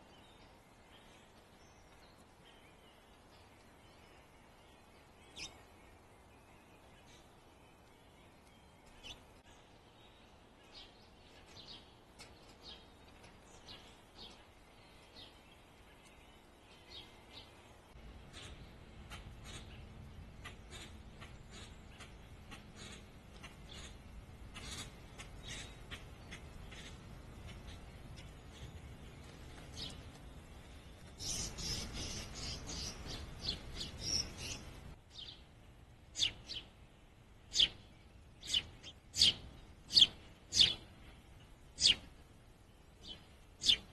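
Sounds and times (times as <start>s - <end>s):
birds chirping: 0.0s - 43.9s
low background rumble: 0.2s - 43.9s.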